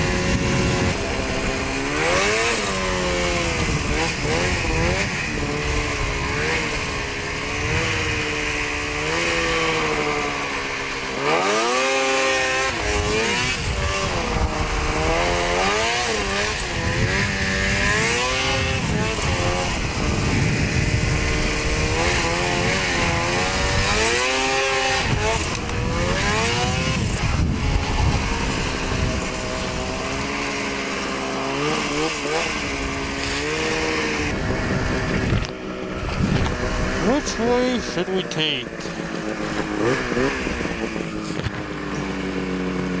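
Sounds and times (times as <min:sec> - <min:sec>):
snowmobile engine revving: 0:00.0 - 0:43.0.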